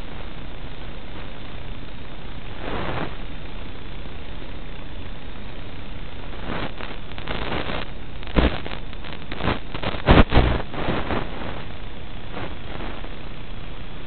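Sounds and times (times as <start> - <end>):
loud crackling bursts: 0.0 - 14.0
static hiss: 0.0 - 14.0.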